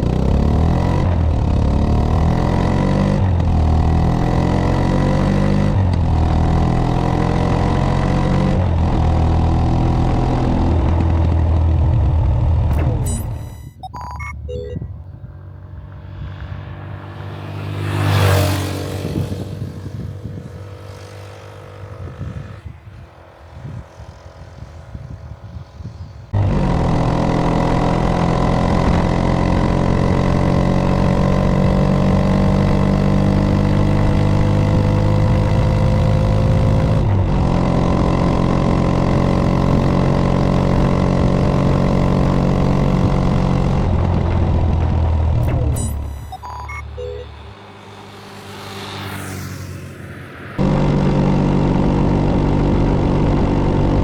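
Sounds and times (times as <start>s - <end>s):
motorcycle passing by: 0.0s - 12.7s, 14.8s - 54.0s.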